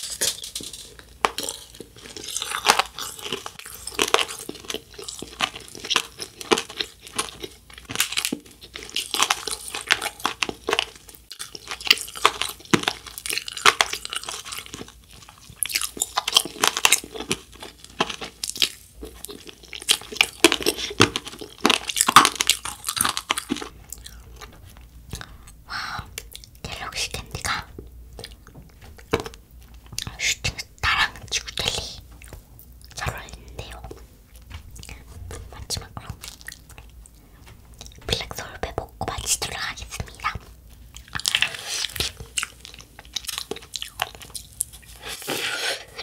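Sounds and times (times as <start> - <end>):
crunching candy: 0.0 - 46.0
wet chewing: 0.0 - 46.0.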